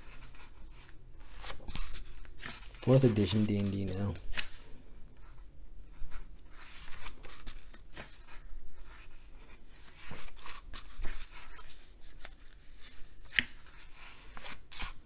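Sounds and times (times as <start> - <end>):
book page rustling: 0.0 - 15.0.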